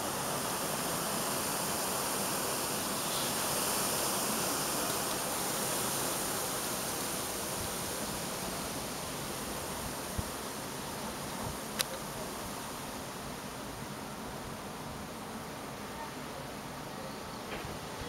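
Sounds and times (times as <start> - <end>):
storm rushing hiss: 0.0 - 15.9, 16.7 - 18.0.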